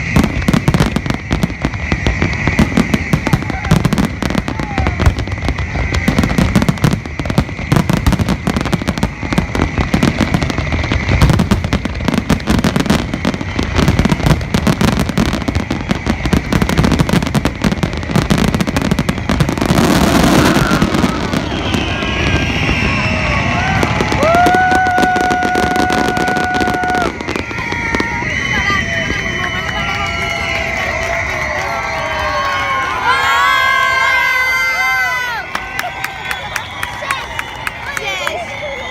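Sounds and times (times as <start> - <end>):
fireworks hissing burst: 0.0 - 31.3
fireworks bangs and crackles: 0.0 - 38.9.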